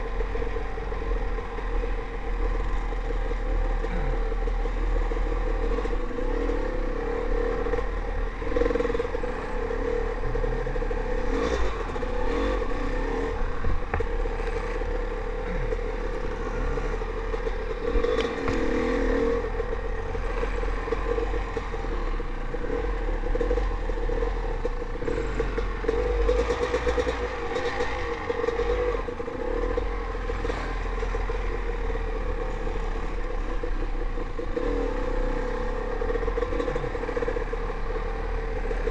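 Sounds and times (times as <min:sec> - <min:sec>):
bike knocking and rattling: 0:00.0 - 0:38.9
dirt bike engine revving: 0:02.5 - 0:31.6, 0:34.4 - 0:38.9.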